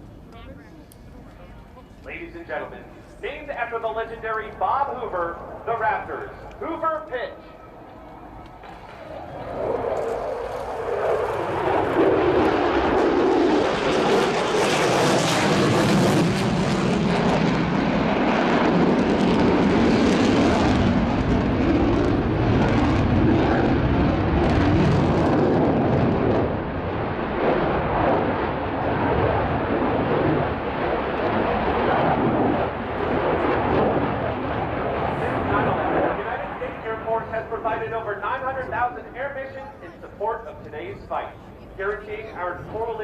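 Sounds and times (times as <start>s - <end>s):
jet engine roar: 2.0s - 43.0s.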